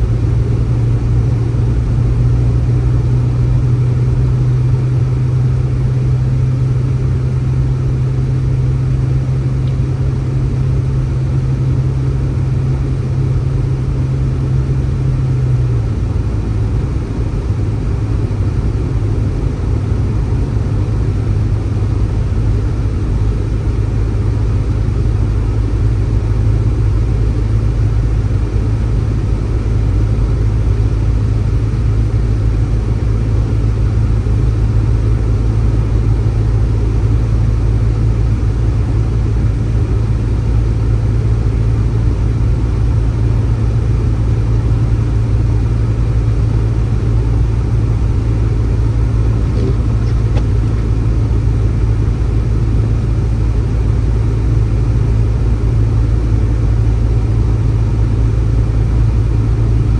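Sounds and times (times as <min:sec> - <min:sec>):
engine hum: 0:00.0 - 0:59.9.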